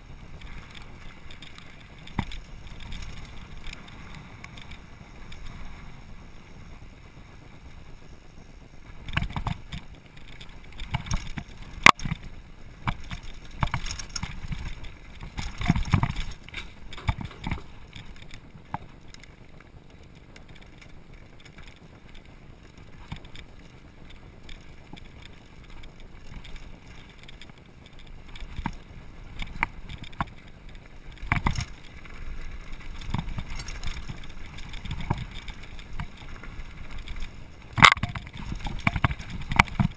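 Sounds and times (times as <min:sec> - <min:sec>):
bike rattling and knocking: 0:00.0 - 0:05.6, 0:08.9 - 0:39.9.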